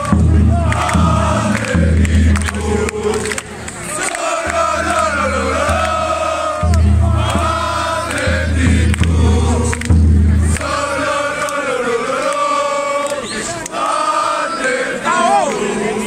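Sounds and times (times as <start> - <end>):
crowd chanting in unison: 0.0 - 16.0.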